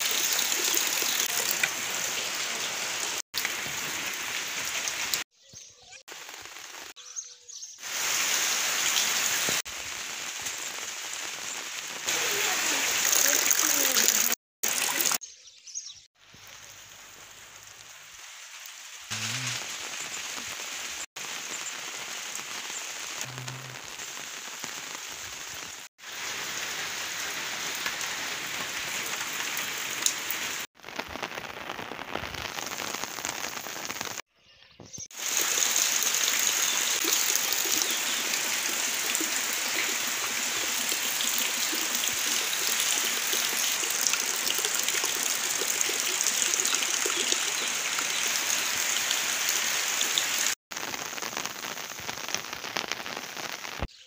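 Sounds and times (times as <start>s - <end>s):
rain falling: 0.0s - 5.3s, 6.1s - 7.0s, 7.8s - 15.2s, 16.2s - 34.2s, 35.1s - 53.9s.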